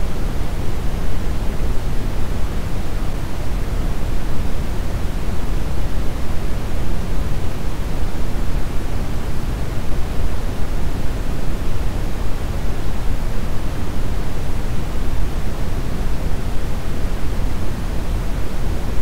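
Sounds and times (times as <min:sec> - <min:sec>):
brown noise rumbling hiss: 0:00.0 - 0:19.0.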